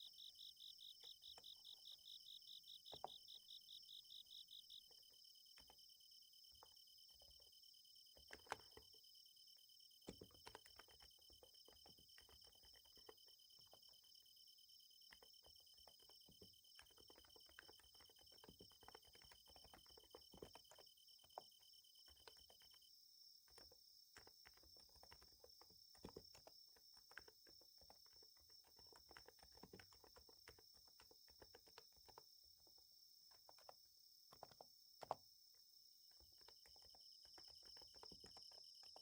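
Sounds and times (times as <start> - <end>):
crickets chirring: 0.0 - 39.0
keyboard typing: 0.1 - 5.9, 6.5 - 9.0, 10.0 - 14.4, 15.0 - 22.9, 23.5 - 35.2, 36.1 - 39.0.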